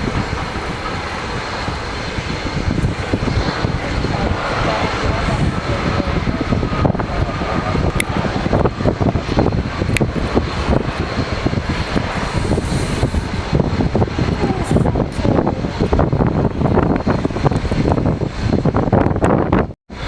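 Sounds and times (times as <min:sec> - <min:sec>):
jet engines rumbling: 0:00.0 - 0:20.0
low buffeting: 0:00.0 - 0:20.0.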